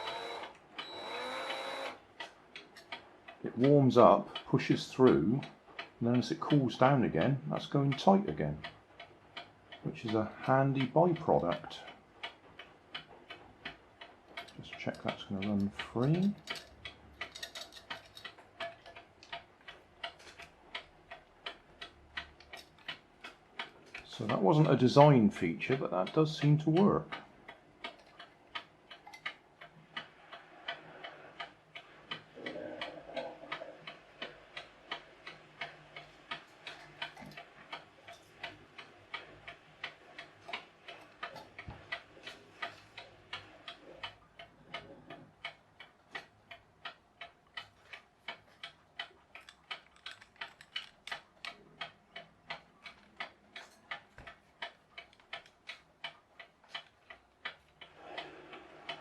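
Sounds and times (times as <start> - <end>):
mechanical clock ticking: 0.0 - 59.0.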